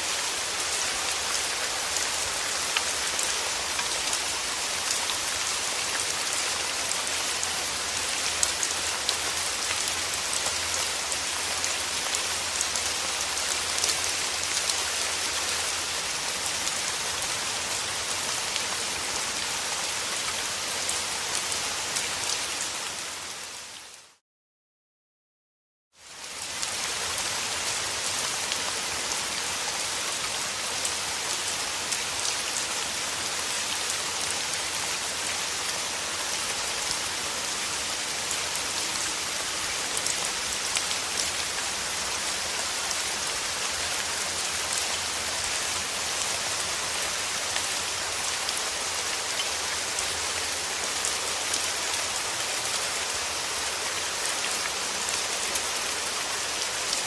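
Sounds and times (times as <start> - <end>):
steady rain falling: 0.0 - 24.2, 26.0 - 57.0.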